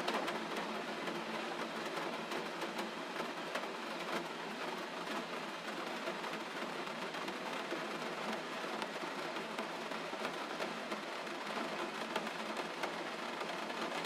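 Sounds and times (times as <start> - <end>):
gentle rain falling: 0.0 - 14.0.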